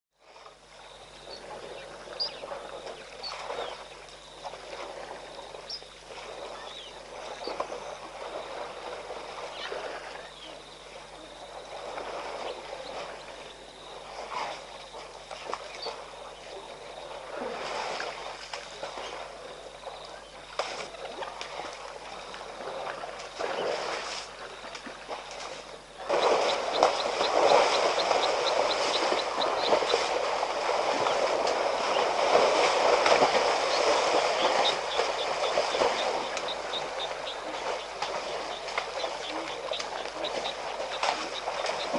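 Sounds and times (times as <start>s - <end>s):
elephants splashing in mud: 1.3s - 41.9s.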